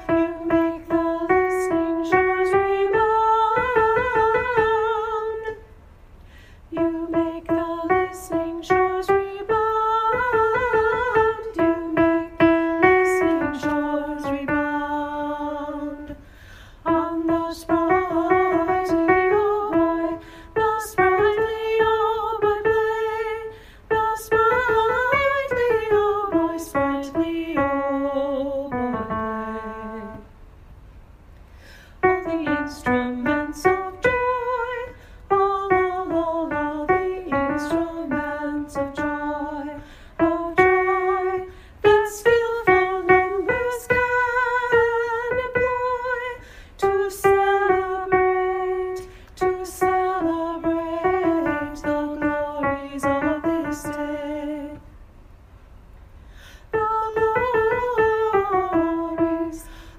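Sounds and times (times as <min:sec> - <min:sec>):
piano accompaniment: 0:00.0 - 0:05.6, 0:06.8 - 0:16.2, 0:16.9 - 0:30.3, 0:32.0 - 0:54.8, 0:56.8 - 0:59.8
person singing with vibrato: 0:00.0 - 0:05.8, 0:06.6 - 0:30.3, 0:31.9 - 0:55.0, 0:56.5 - 0:59.9.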